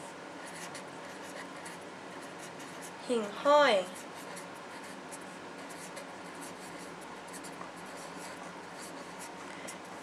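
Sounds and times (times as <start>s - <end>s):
pen scratching on paper: 0.4s - 3.0s, 3.8s - 10.0s.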